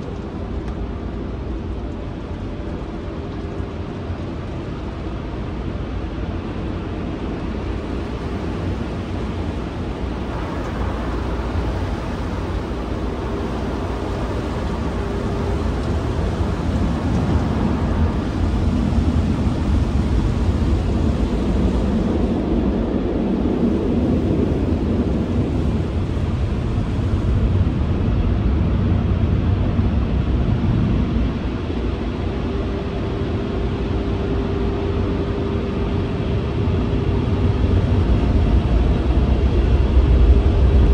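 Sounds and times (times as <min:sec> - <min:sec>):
faint steady hum: 0:00.0 - 0:40.9
steady low rumble: 0:00.0 - 0:40.9.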